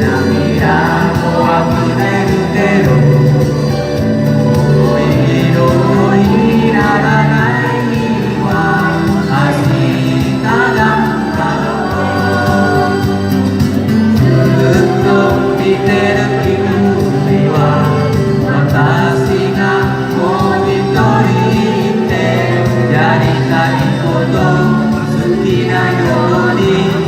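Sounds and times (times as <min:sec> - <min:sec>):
pop song with singing: 0:00.0 - 0:27.0.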